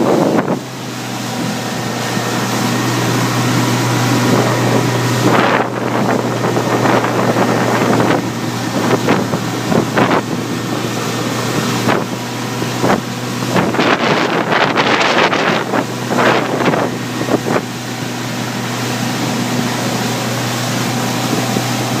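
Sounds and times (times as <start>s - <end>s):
motorboat engine hum: 0.0s - 22.0s
water rushing: 0.0s - 22.0s
wind buffeting microphone: 0.0s - 22.0s.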